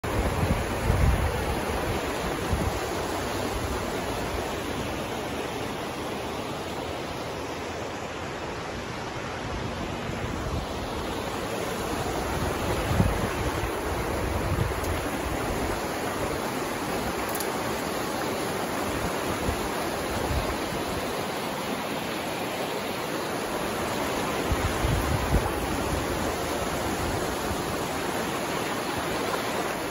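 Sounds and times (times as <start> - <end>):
river rushing over rocks: 0.0 - 29.9.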